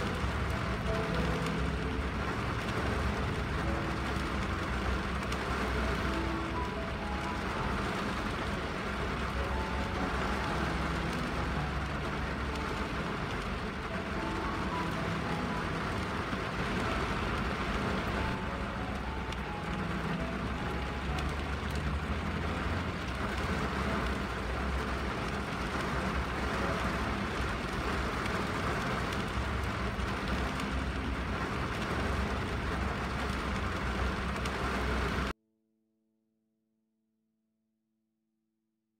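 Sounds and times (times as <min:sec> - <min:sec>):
rain on a car windshield: 0:00.0 - 0:35.3
soft faint melody: 0:00.0 - 0:35.3.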